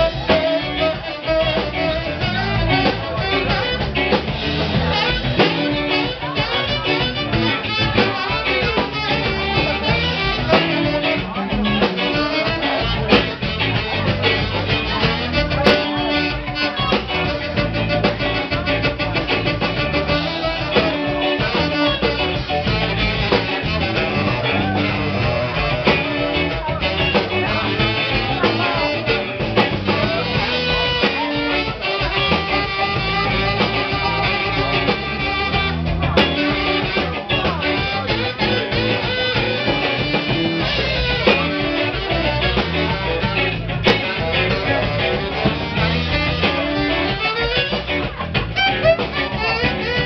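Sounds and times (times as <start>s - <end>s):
blues-rock band playing: 0.0s - 50.0s.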